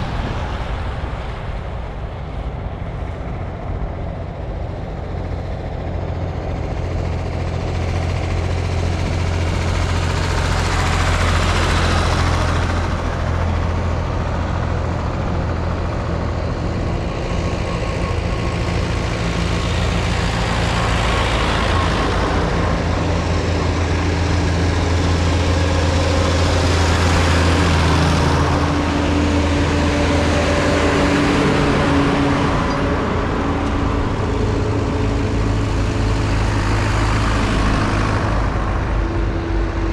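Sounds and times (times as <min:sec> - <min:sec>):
diesel tractor engines droning: 0:00.0 - 0:39.9
vehicles passing: 0:00.0 - 0:39.9.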